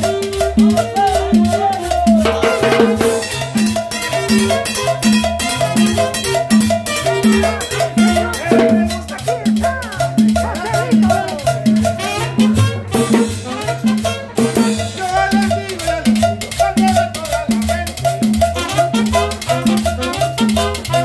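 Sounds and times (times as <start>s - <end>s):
double bass line: 0.0s - 21.0s
percussion beat: 0.0s - 21.0s.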